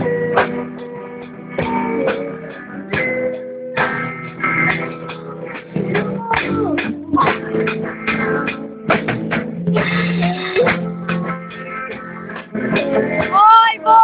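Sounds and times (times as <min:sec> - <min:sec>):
band playing: 0:00.0 - 0:14.0
rapid drum beats: 0:00.0 - 0:14.0.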